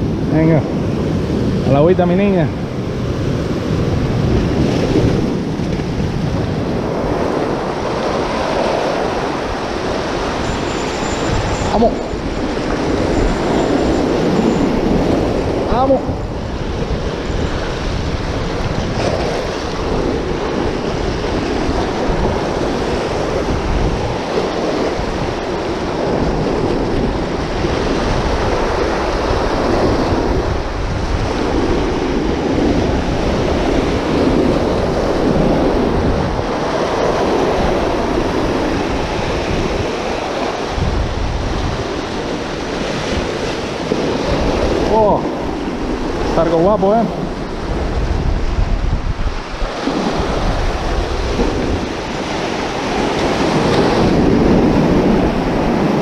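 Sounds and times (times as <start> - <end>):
surf washing over rocks: 0.0 - 56.0
wind buffeting microphone: 0.0 - 56.0.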